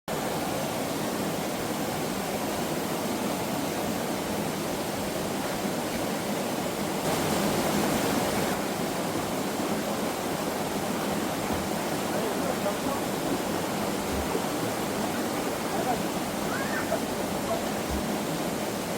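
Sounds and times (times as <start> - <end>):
stream rushing: 0.1 - 18.9.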